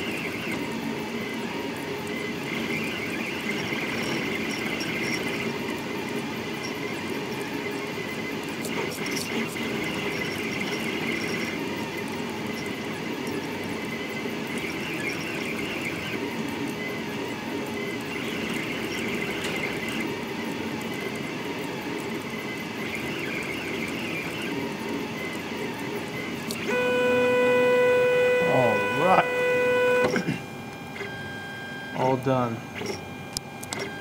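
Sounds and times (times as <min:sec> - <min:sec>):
three d printer motors running: 0:00.0 - 0:34.0.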